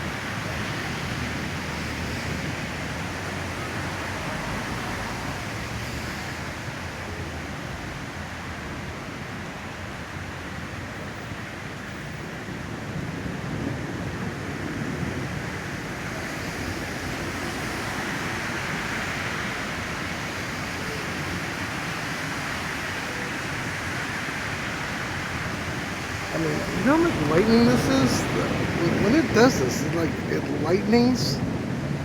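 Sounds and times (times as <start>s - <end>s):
rain: 0.0s - 32.0s
wind: 0.0s - 32.0s.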